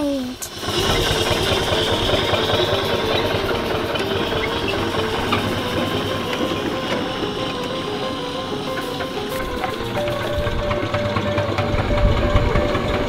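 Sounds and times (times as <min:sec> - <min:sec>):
steam engine chuffing: 0:00.0 - 0:13.0.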